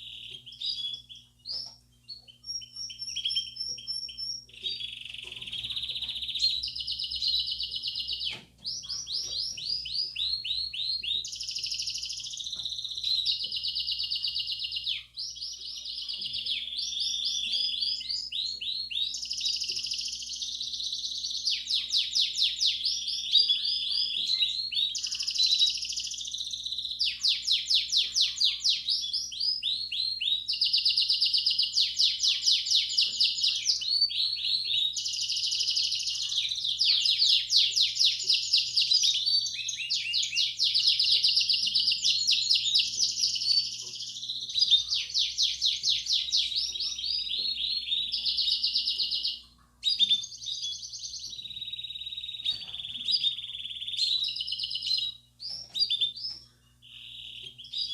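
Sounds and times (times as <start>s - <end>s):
canary singing trills: 0.0s - 57.9s
faint steady hum: 0.0s - 57.9s.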